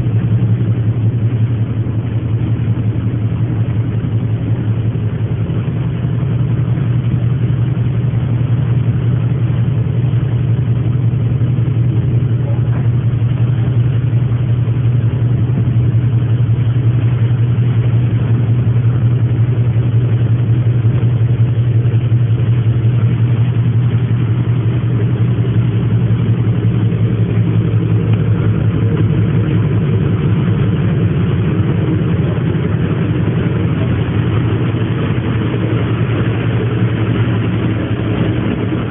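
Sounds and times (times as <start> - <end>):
ferry engine drone: 0.0 - 38.9.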